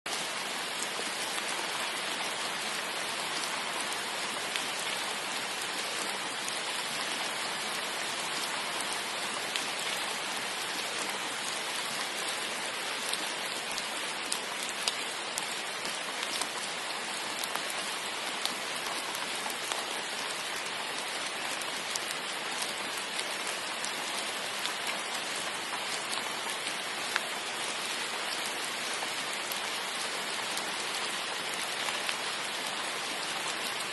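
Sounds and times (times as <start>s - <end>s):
steady rain hiss: 0.1s - 33.9s.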